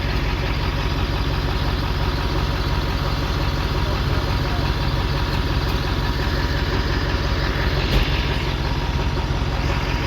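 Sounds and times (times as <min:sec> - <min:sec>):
pickup truck engine idling: 0:00.0 - 0:10.0.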